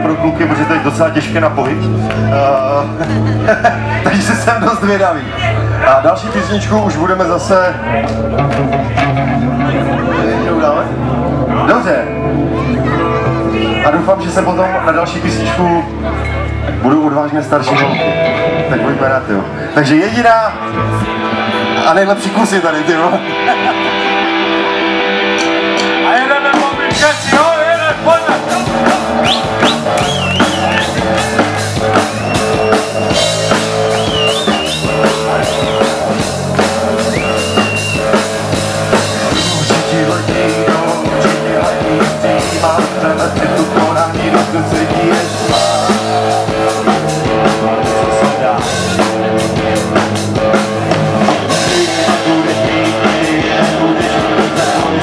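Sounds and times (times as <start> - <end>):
drums: 0.0 - 55.0
electric guitar: 0.0 - 55.0
rock band playing: 0.0 - 55.0.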